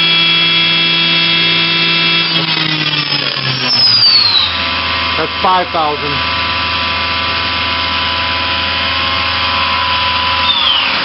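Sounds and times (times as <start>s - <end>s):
machine spindle whine: 0.0s - 11.0s.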